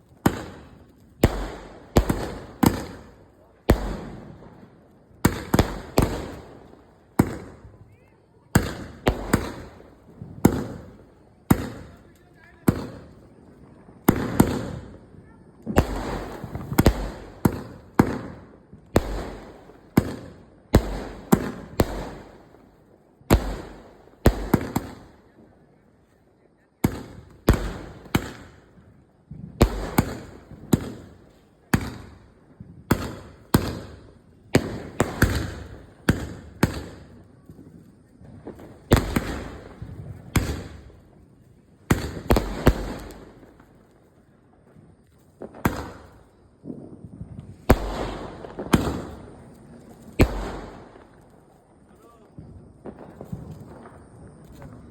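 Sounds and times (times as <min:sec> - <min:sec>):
firecrackers banging: 0:00.0 - 0:25.3, 0:26.8 - 0:32.2, 0:32.8 - 0:54.9.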